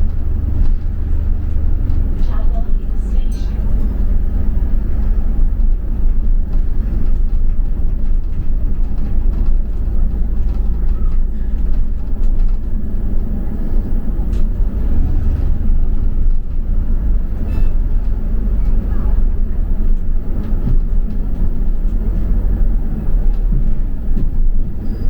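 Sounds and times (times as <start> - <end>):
bus engine and road rumble: 0.0 - 25.0.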